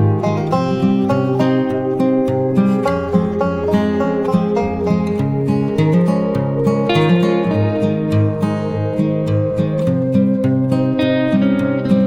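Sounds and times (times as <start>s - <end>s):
acoustic guitar melody: 0.0s - 12.0s.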